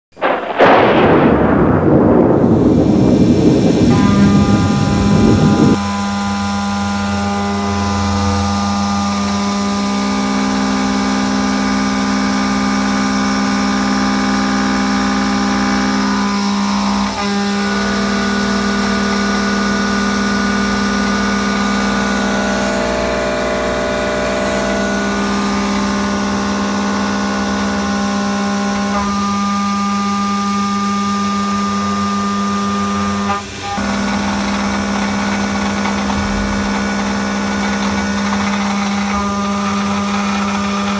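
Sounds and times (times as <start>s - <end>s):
loud rumble: 0.1s - 29.4s, 32.8s - 40.9s
cnc router machining whine: 2.5s - 40.9s.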